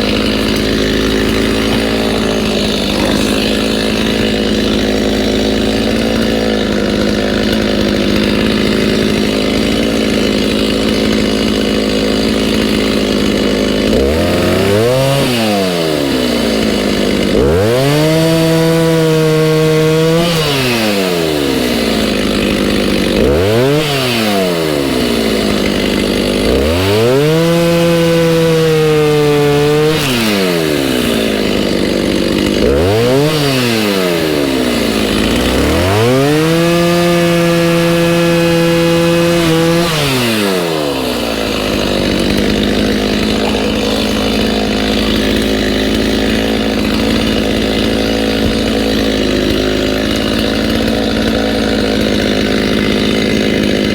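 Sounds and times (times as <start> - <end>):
chainsaw revving and idling: 0.0 - 53.9.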